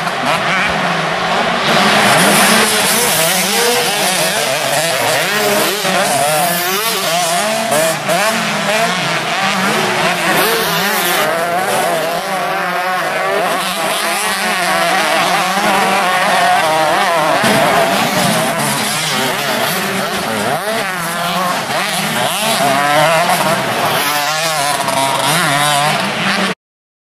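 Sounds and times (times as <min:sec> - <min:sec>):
motocross bikes revving: 0:00.0 - 0:26.6.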